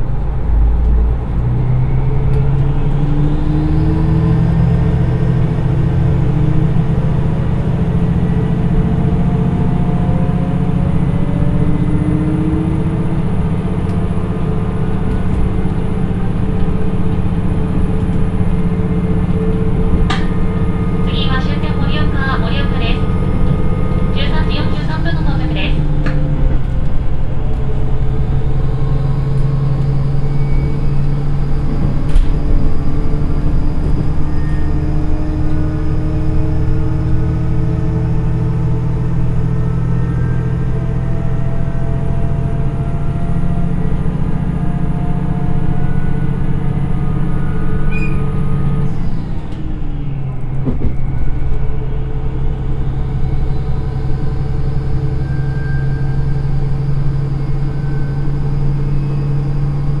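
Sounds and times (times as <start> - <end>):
diesel railcar engine pulling: 0.0 - 60.0
rumble of running train: 0.0 - 60.0.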